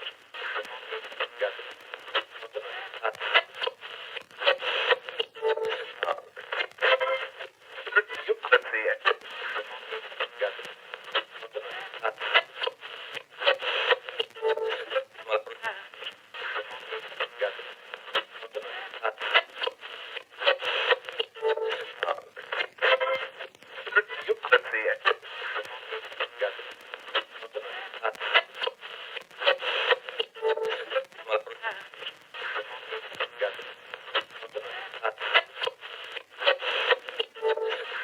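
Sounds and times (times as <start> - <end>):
radio static hiss and crackle: 0.0 - 38.0
radio station tone: 0.0 - 38.0.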